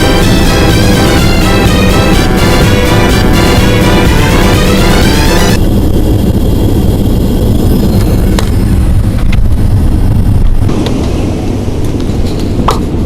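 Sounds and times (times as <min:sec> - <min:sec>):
jet cabin rumble: 0:00.0 - 0:13.0.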